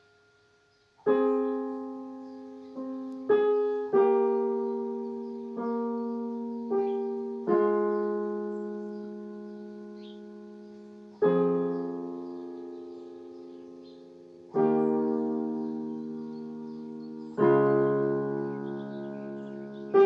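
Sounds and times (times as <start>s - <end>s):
slow solo piano piece: 0.0s - 20.0s.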